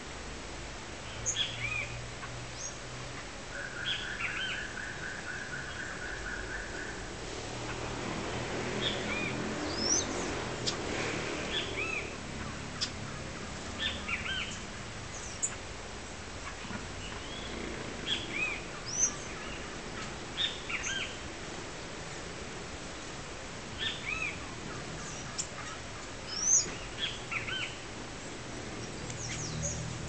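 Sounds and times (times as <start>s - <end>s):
small songbirds chirping: 1.0s - 2.8s, 3.5s - 8.0s, 8.6s - 30.0s.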